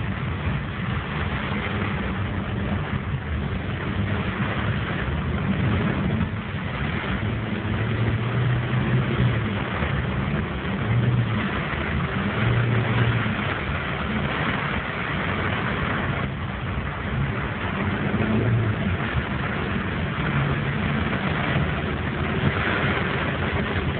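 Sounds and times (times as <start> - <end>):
car engine hum: 0.0 - 23.9
rain hissing on wet road: 0.0 - 23.9.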